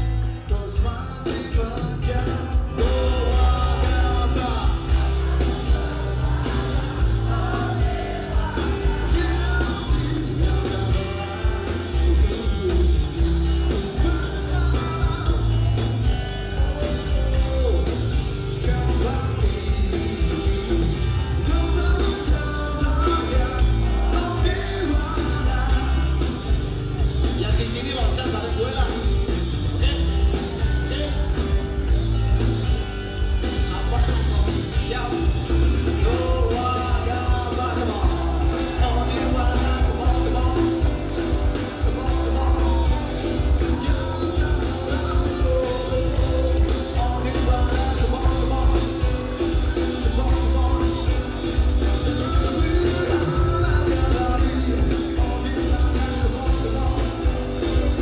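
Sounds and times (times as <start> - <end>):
man singing lead: 0.0 - 58.0
rock band playing: 0.0 - 58.0.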